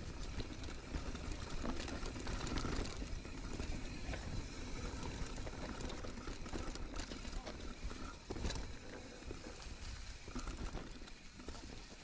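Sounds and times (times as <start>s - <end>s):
bike rattles and clicks: 0.0s - 12.0s
bike tyres rolling over dirt: 0.0s - 12.0s.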